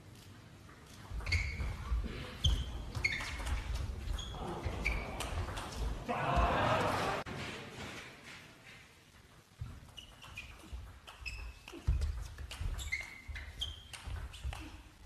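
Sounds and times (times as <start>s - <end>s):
shoes squeaking on floor: 0.2s - 6.0s, 8.7s - 15.0s.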